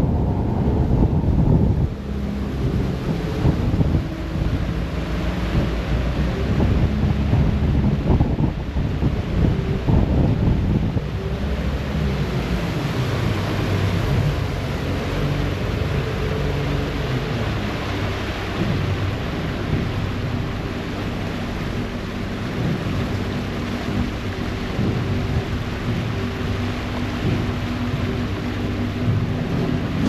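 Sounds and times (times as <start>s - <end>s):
propeller wash rushing: 0.0s - 30.0s
ship engines droning: 0.0s - 30.0s.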